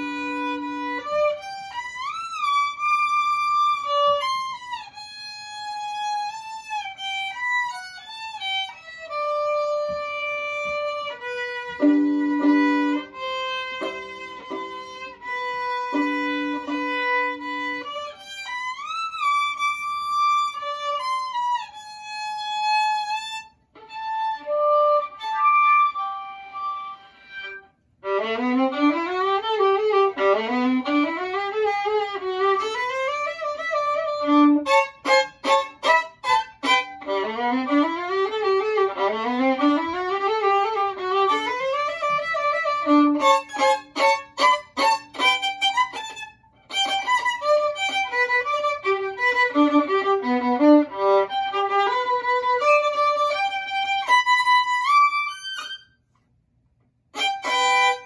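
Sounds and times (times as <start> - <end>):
solo violin runs: 0.0 - 56.0, 57.2 - 58.0.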